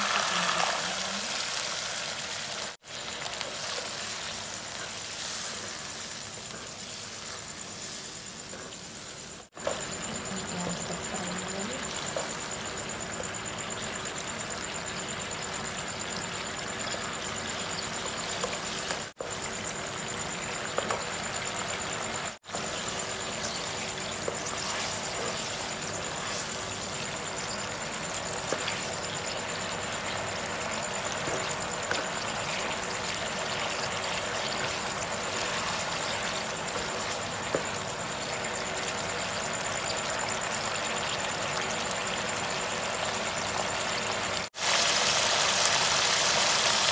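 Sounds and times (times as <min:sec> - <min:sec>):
sauce bubbling and sizzling: 0:00.0 - 0:46.9.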